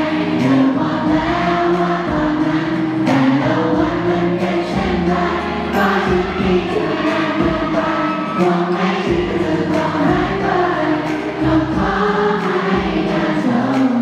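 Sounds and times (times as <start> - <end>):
amplified backing track: 0.0 - 14.0
many voices singing together: 0.0 - 14.0
men singing into microphones: 0.0 - 14.0.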